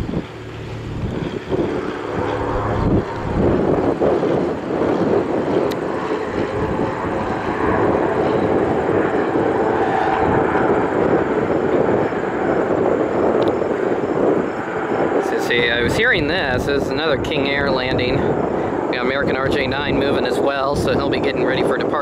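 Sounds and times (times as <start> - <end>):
turboprop plane engine drone: 0.0 - 22.0
wind buffeting microphone: 0.0 - 22.0.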